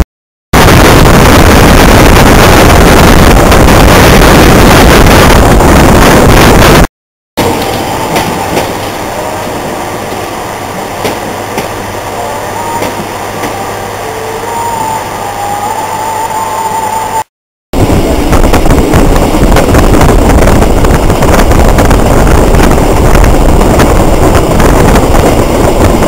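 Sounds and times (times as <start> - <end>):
passenger train rumbling past: 0.6 - 26.0
wind and rail noise: 0.6 - 26.0.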